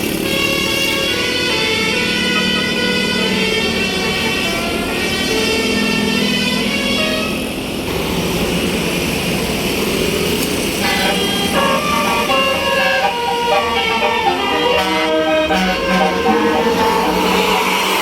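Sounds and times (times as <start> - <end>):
bus rumbling: 0.0 - 18.0
musical air horn melody: 0.1 - 7.6, 10.7 - 18.0.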